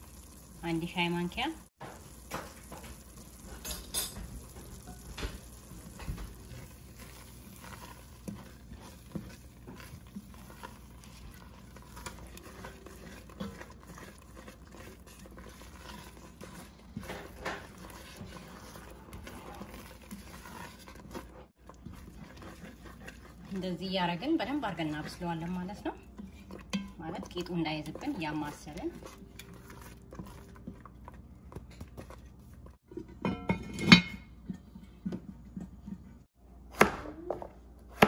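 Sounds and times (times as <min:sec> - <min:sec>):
wooden spoon scraping a pot: 0:00.1 - 0:36.3.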